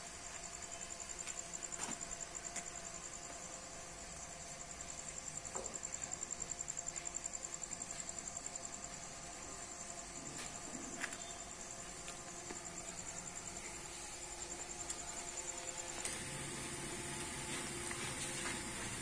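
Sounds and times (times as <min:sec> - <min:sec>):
cricket trilling: 0:00.0 - 0:19.0
faint steady hum: 0:00.0 - 0:19.0.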